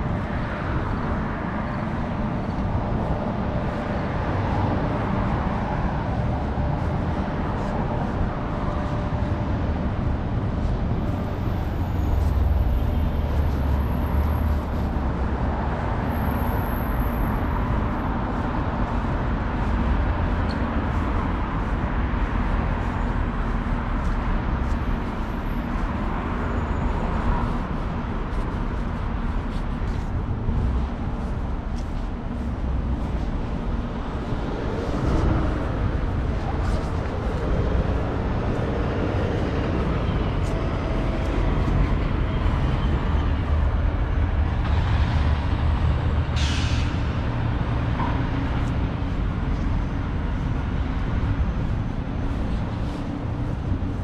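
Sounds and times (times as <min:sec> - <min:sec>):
vehicles rumbling in motion: 0:00.0 - 0:54.0.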